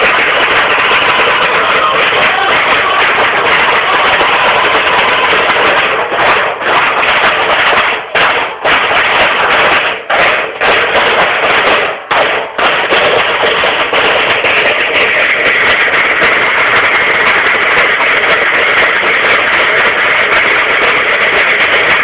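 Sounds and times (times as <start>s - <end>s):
snare drums playing cadence: 0.0s - 22.0s.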